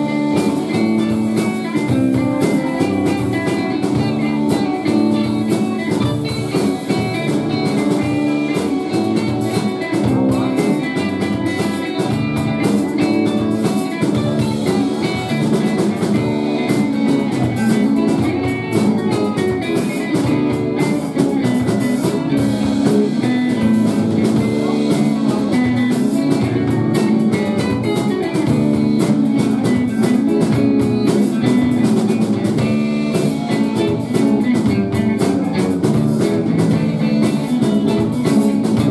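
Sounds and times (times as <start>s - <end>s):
drum kit: 0.0s - 38.9s
electric guitar: 0.0s - 38.9s.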